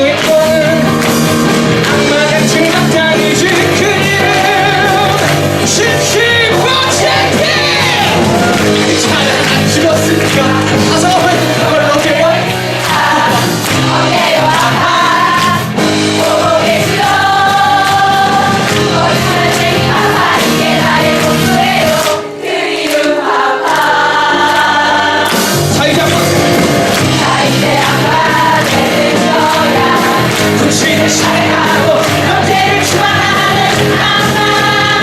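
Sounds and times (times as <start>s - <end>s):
instrumental accompaniment: 0.0s - 35.0s
several voices singing: 1.6s - 35.0s.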